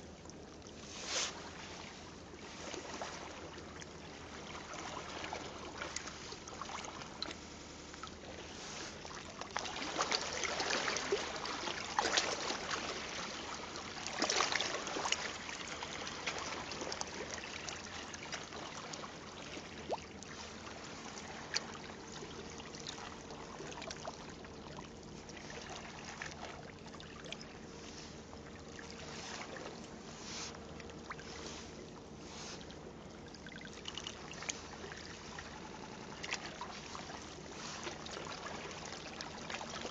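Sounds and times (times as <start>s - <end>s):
shallow water splashing: 0.2s - 39.9s.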